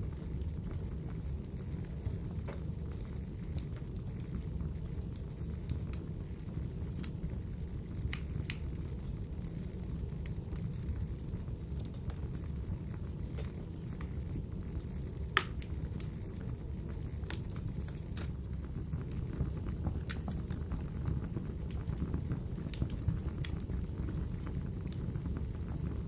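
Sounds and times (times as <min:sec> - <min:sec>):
low rumble of burning fire: 0:00.0 - 0:26.0
wood fire crackling and popping: 0:00.0 - 0:26.0.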